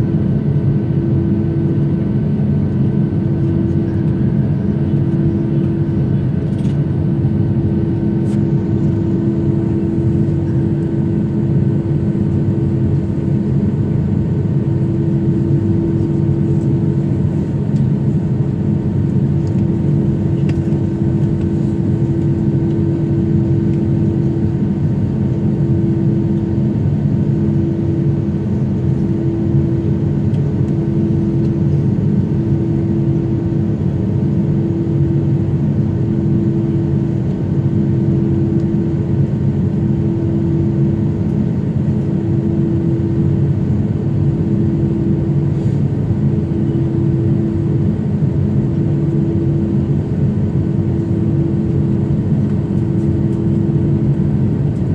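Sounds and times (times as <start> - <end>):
airliner cabin engine drone: 0.0 - 54.9.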